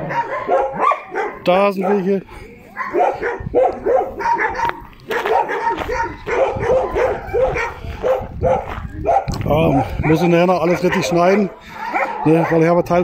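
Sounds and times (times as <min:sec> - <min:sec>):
dogs barking: 0:00.0 - 0:13.0.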